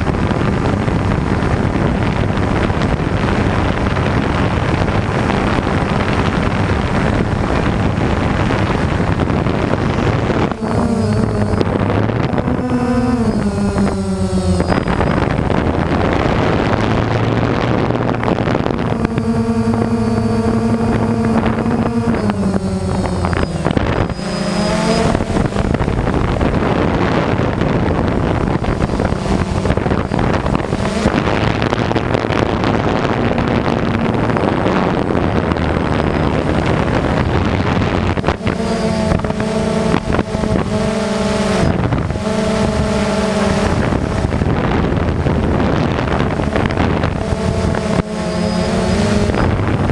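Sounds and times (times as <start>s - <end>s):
electric motors whining: 0.0s - 49.9s
wind rush on microphone: 0.0s - 49.9s.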